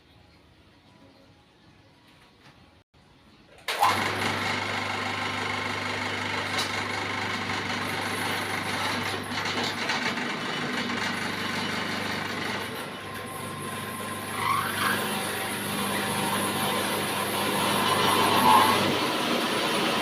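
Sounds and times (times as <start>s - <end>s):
sawmill machine running: 3.7s - 20.0s.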